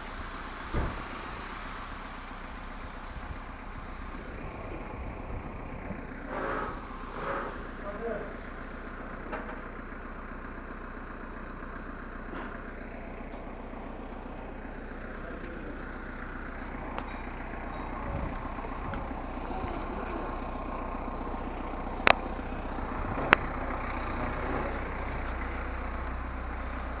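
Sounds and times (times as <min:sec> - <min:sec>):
engine running: 0:00.0 - 0:27.0.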